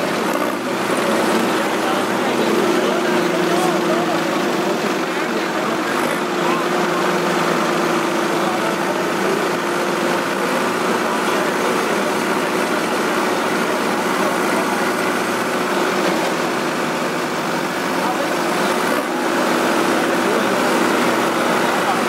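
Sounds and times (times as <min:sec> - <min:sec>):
diesel tractor engines running: 0:00.0 - 0:22.0.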